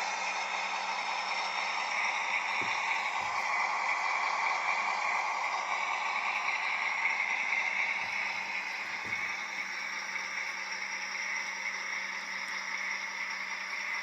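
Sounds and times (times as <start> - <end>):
model train motor whirring: 0.0 - 14.0.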